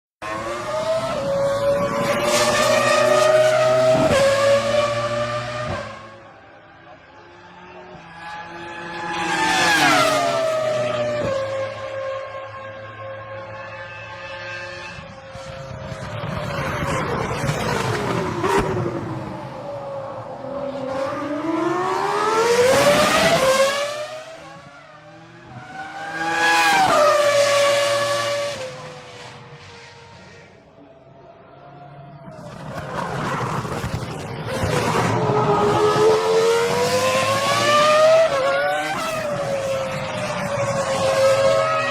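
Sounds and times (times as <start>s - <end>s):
racing car engine at high revs: 0.2s - 30.7s, 31.6s - 41.9s.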